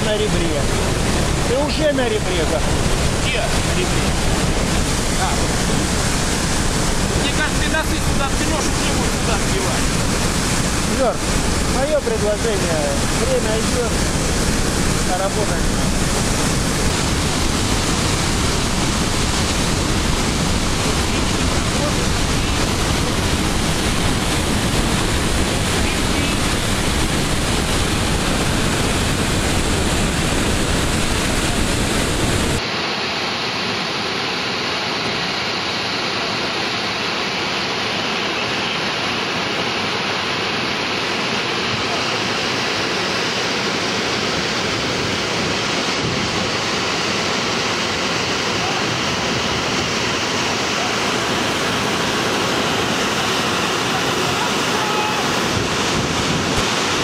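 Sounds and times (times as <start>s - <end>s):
waterfall pouring over rocks: 0.0s - 57.0s
whitewater rapids rushing: 0.0s - 57.0s.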